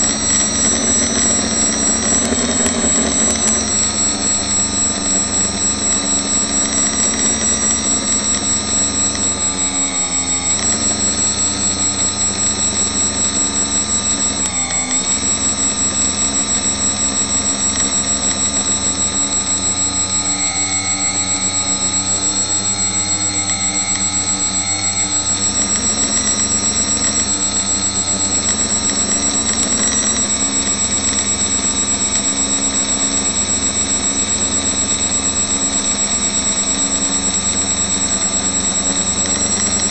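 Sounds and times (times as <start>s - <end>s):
drone motors droning: 0.0s - 39.9s
high-pitched whine: 0.0s - 39.9s.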